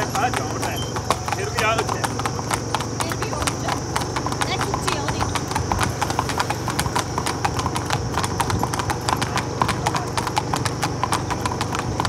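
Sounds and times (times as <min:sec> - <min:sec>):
horse hooves clip-clopping on pavement: 0:00.0 - 0:12.0.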